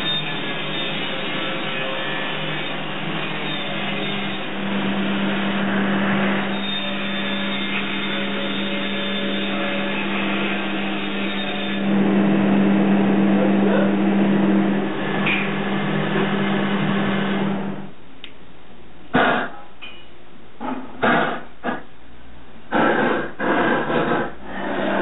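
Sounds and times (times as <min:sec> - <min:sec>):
machinery hum: 0:00.0 - 0:25.0.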